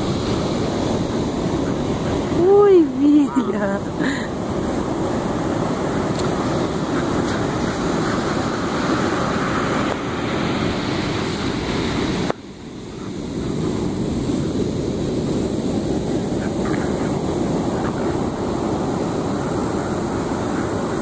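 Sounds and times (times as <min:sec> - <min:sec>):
surf breaking on a beach: 0:00.0 - 0:21.0
wind buffeting the microphone: 0:00.0 - 0:21.0.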